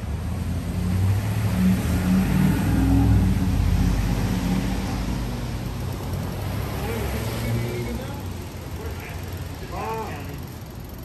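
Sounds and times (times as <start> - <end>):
passing traffic: 0.0 - 11.0.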